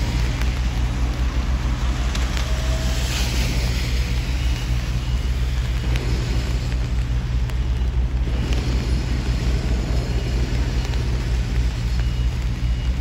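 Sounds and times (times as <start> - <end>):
cars passing on wet road: 0.0 - 13.0
low traffic rumble: 0.0 - 13.0.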